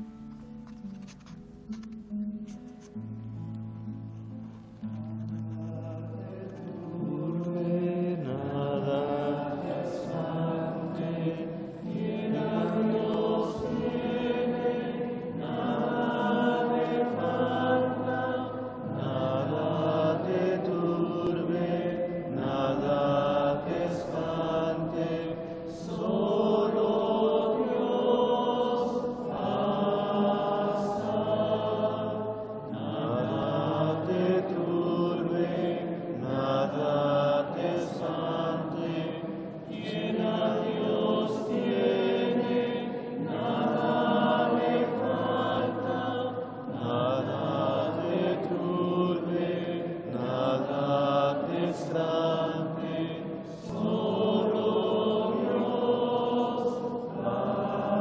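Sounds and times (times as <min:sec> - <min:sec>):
congregation singing a chant: 0:05.5 - 0:58.0.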